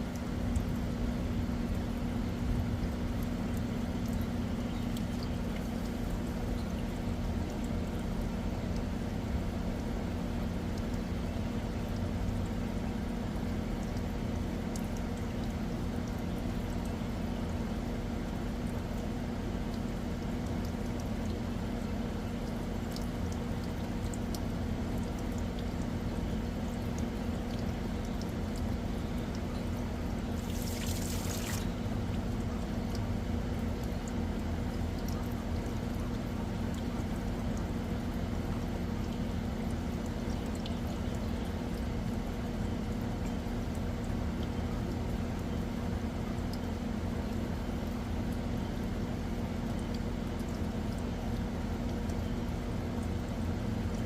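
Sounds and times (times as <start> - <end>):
low machine hum: 0.0 - 54.0
water pouring and trickling: 0.0 - 54.0.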